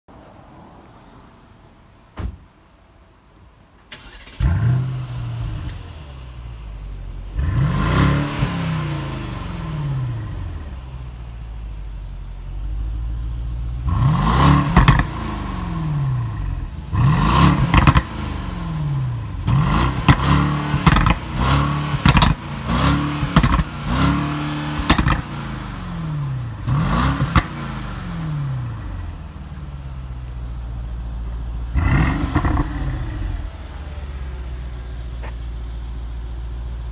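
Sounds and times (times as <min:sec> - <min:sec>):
car engine starting and idling: 0:03.2 - 0:36.9.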